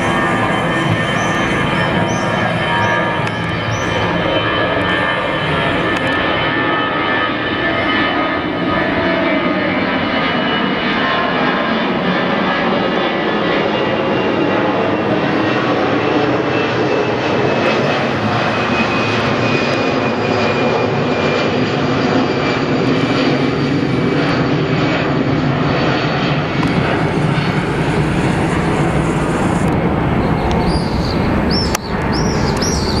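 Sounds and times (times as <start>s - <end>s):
jet airliner passing overhead: 0.0s - 33.0s.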